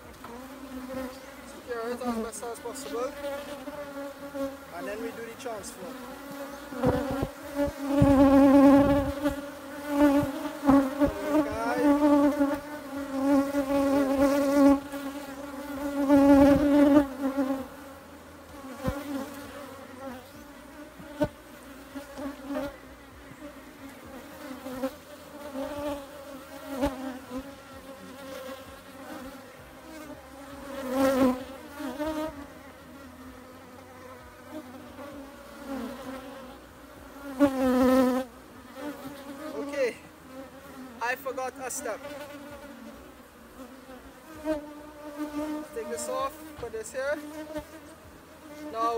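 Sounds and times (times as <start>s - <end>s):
bees buzzing: 0.0s - 48.9s.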